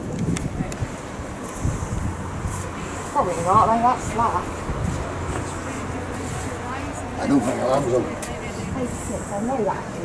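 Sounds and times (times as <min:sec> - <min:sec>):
wind rumbling on microphone: 0:00.0 - 0:07.2, 0:07.9 - 0:10.0.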